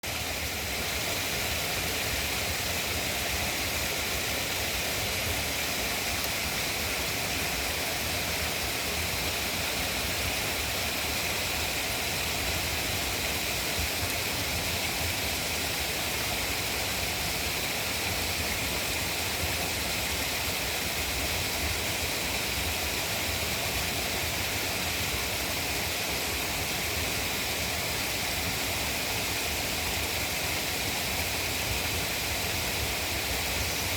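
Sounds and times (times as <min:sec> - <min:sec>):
water running and splashing: 0:00.0 - 0:33.9.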